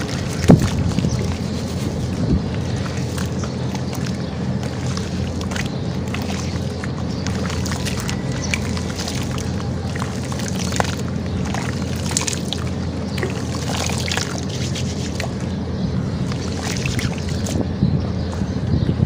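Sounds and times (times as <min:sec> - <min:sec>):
hands squishing wet slurry: 0:00.0 - 0:17.6
steady low hum: 0:00.0 - 0:19.0.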